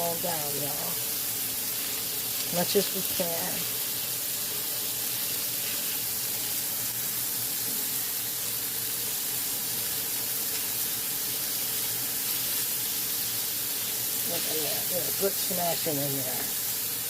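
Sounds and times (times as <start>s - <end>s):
burger patties sizzling on grill: 0.0s - 17.0s.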